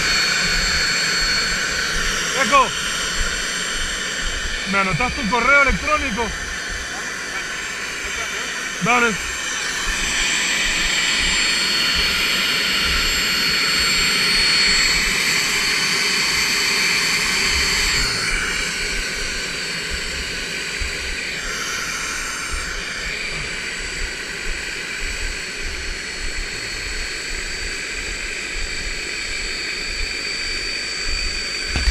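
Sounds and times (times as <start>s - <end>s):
loud rushing hiss: 0.0s - 29.4s
helicopter turbine whine: 0.0s - 31.9s.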